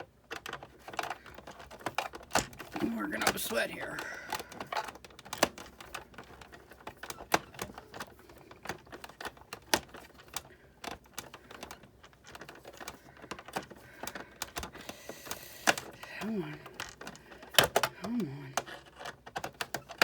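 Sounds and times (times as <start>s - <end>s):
hand tools clicking on parts: 0.3s - 20.0s.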